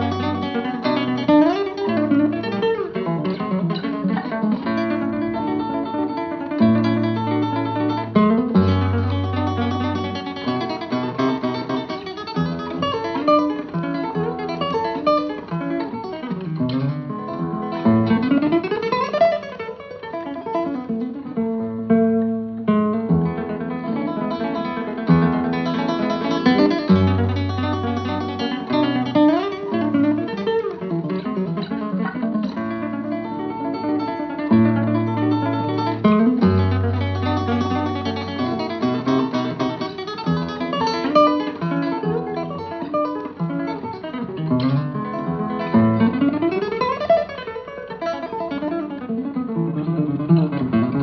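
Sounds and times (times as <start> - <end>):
acoustic guitar plucking: 0.0 - 51.0.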